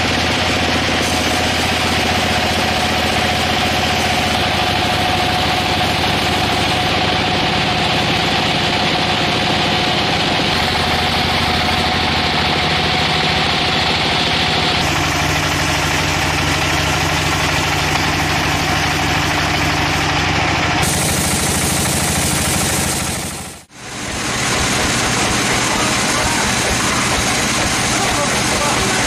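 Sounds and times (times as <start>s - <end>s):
sawmill machinery humming and whining: 0.0s - 29.0s.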